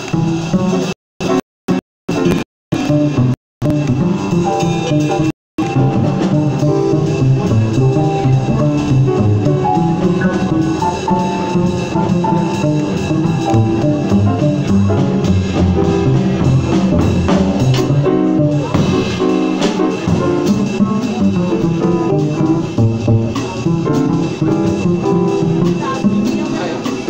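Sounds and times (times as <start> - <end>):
drum kit playing: 0.0 - 27.0
plucked double bass: 2.1 - 27.0.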